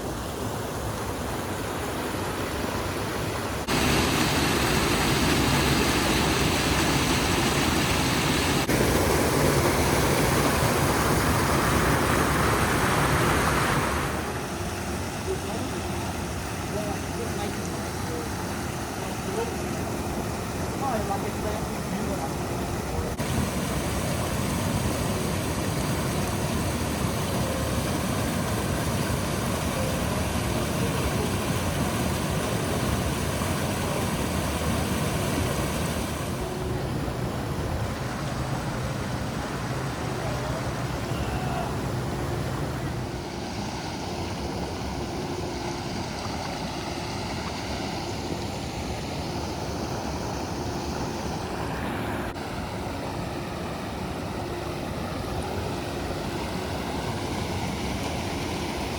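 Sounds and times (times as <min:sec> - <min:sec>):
steady rush of noise: 0:00.0 - 0:58.9.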